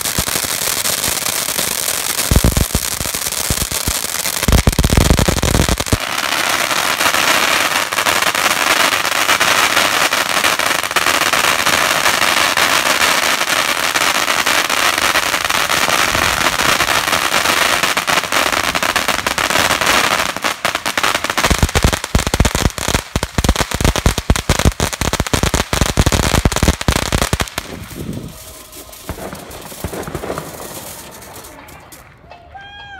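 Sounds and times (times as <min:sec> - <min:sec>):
firework pops and bangs: 0:00.0 - 0:32.4
fireworks fountain crackling and hissing: 0:00.0 - 0:32.4.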